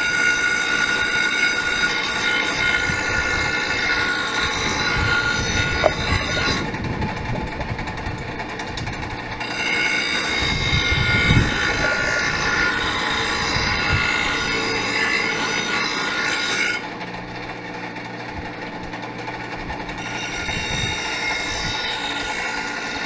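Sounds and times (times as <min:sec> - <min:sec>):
electric grinder grinding metal: 0:00.0 - 0:23.0.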